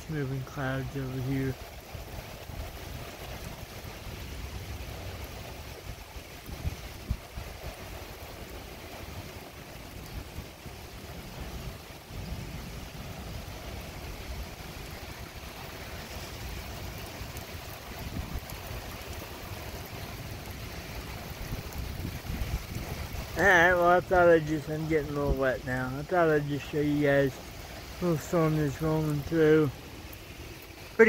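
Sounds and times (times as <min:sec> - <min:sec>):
rain hissing: 0:00.0 - 0:31.0
wind gusting against microphone: 0:00.0 - 0:31.0.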